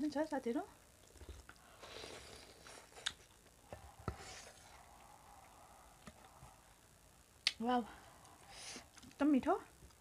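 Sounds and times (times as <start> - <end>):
people eating and chewing: 1.0 - 9.2.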